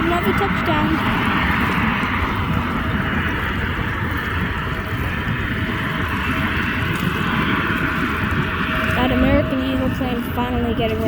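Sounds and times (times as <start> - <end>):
jet airliner roar: 0.0 - 11.0.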